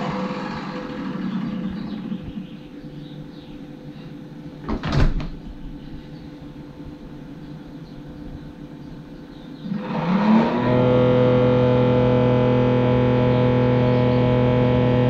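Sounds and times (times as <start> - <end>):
refrigerator fan whirring hum: 0.0 - 15.0
refrigerator humming quietly: 0.0 - 15.0.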